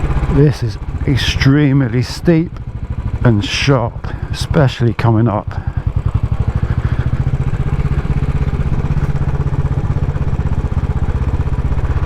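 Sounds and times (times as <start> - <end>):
motorcycle engine thumping: 0.0 - 12.0.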